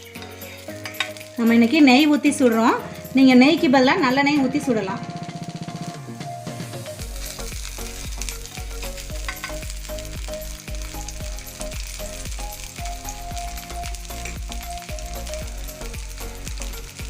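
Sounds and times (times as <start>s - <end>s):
batter sizzling on a griddle: 0.0s - 2.2s, 5.2s - 17.0s.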